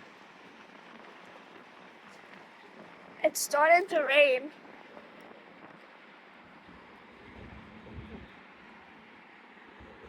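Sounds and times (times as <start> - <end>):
light rain patter: 0.0 - 10.0.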